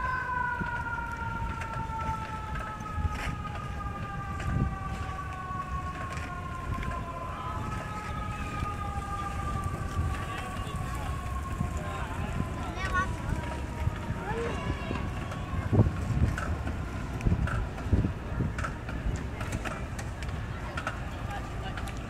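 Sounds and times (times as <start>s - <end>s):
siren wailing: 0.0s - 21.8s
low rumble of wind: 0.0s - 22.0s.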